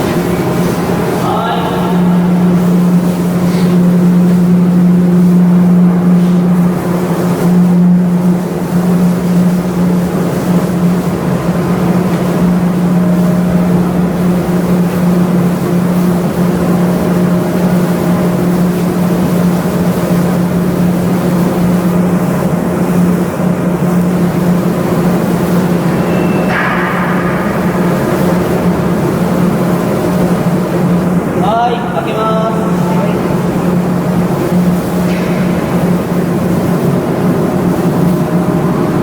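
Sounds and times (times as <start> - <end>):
ship engine humming: 0.0 - 39.0.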